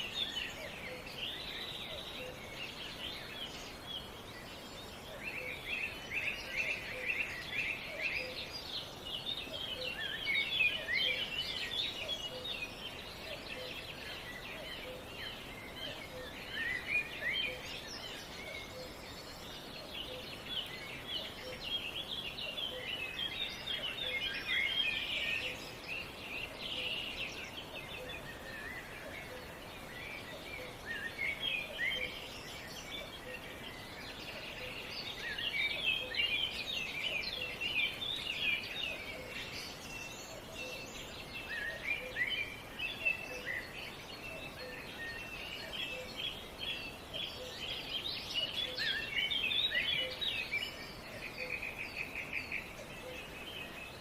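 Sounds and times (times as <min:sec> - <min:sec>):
faint outdoor hiss: 0:00.0 - 0:54.0
songbirds chirping and trilling: 0:00.0 - 0:54.0.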